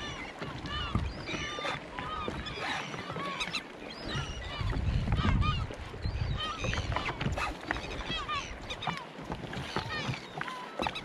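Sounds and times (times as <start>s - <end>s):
seagulls squawking: 0.0s - 9.0s, 9.6s - 11.0s.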